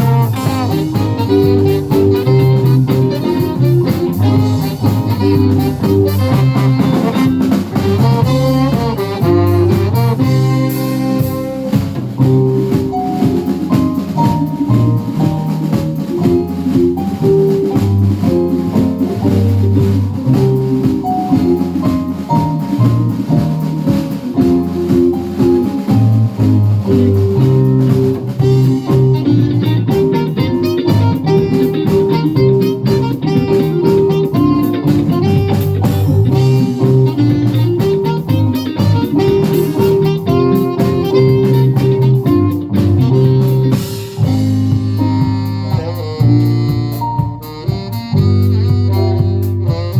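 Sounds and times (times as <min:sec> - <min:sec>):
bass and drum kit: 0:00.0 - 0:49.9
electric guitar: 0:00.0 - 0:49.9.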